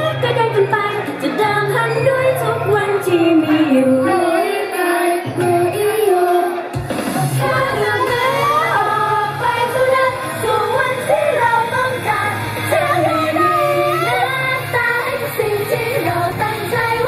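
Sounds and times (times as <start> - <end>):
high female voices singing: 0.0 - 17.0
sped-up pop song: 0.0 - 17.0.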